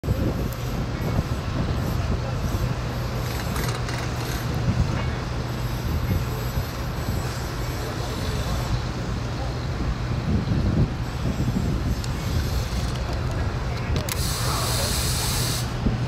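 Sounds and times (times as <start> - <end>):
faint chatter of voices: 0.0 - 15.9
heavy engine humming: 0.0 - 16.0.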